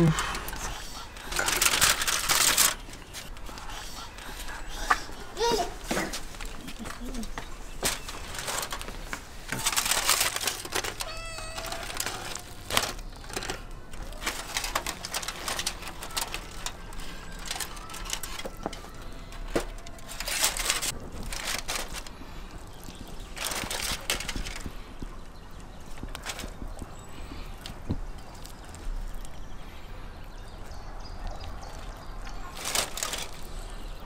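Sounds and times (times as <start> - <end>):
aluminium foil crinkling: 0.0 - 25.0, 25.8 - 29.7, 31.4 - 34.0.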